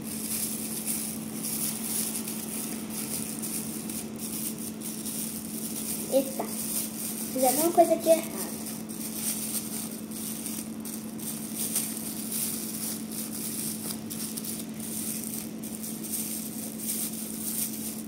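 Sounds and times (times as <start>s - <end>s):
low steady hum: 0.0s - 18.0s
plastic bag crinkling: 0.0s - 18.0s.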